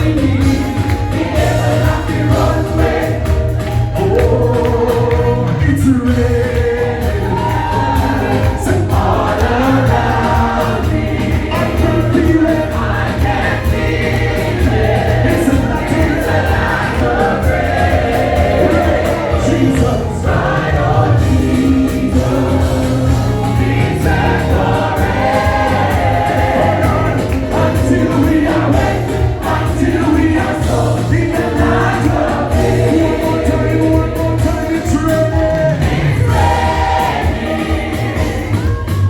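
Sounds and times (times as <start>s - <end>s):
choir singing gospel: 0.0s - 39.0s.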